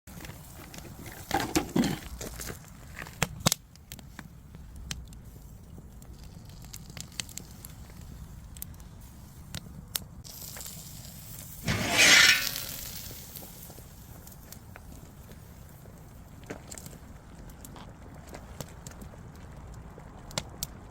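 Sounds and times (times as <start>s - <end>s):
firewood crackling and popping: 0.1s - 20.9s.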